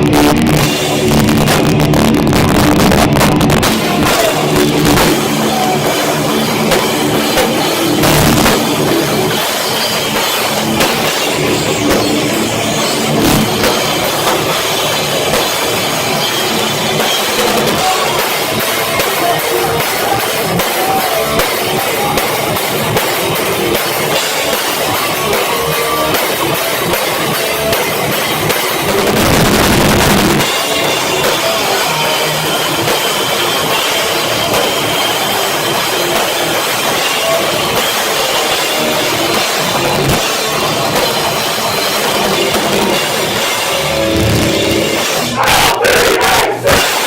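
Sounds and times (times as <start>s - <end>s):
live rock band playing: 0.0s - 47.0s.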